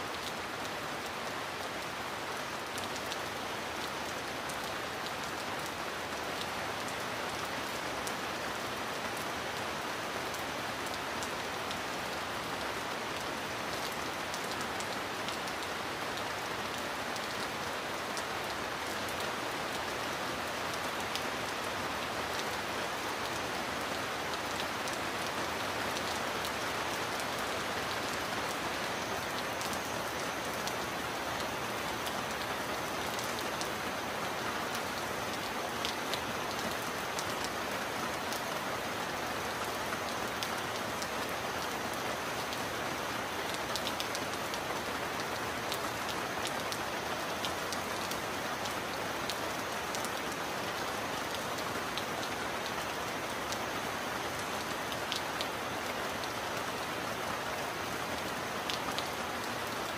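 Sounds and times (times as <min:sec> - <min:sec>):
heavy rain falling: 0:00.0 - 0:59.9
sharp ticks of raindrops: 0:00.0 - 0:59.9.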